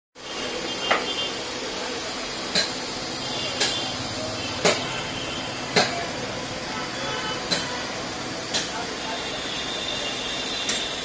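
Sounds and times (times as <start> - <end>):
steady background noise: 0.2 - 11.0.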